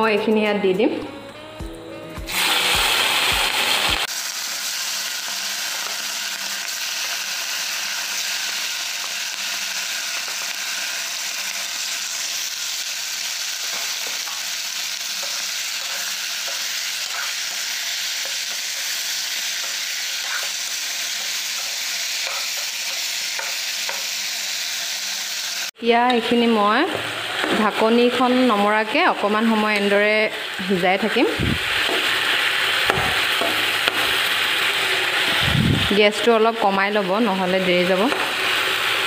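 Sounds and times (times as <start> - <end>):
chicken sizzling in hot oil: 2.2 - 25.8, 26.7 - 39.0.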